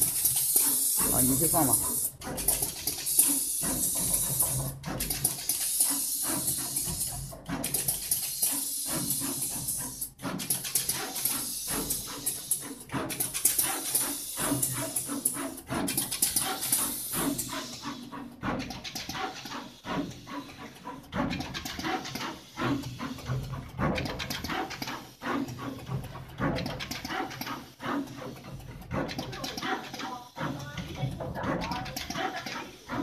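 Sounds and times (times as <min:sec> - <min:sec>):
rapid machine clicking: 0:00.0 - 0:33.0.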